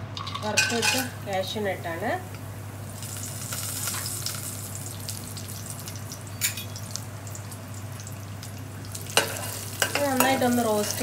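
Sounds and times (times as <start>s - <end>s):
nuts sizzling in oil: 0.1s - 11.0s.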